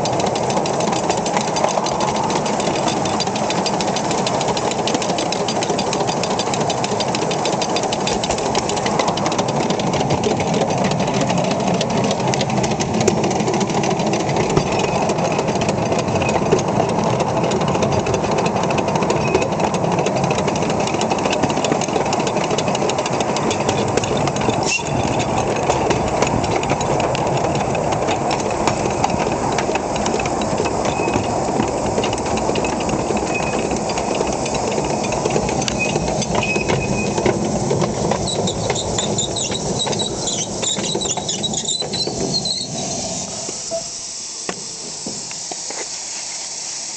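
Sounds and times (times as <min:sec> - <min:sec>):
miniature steam locomotive clatter: 0:00.0 - 0:46.9.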